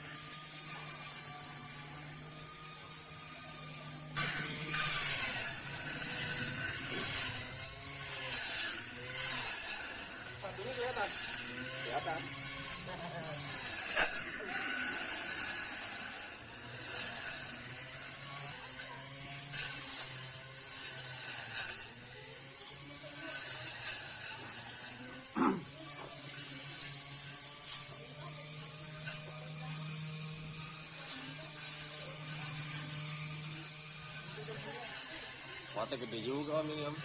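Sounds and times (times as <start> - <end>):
electric motor humming: 0.0 - 37.0.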